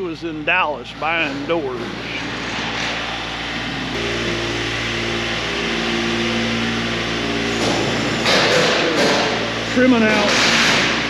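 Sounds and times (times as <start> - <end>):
heavy equipment engine running: 0.0 - 11.0.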